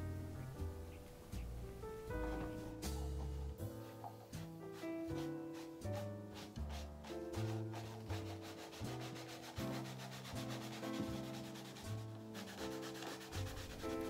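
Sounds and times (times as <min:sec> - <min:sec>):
soft background music: 0:00.0 - 0:14.0
cloth rubbing leather: 0:01.0 - 0:14.0.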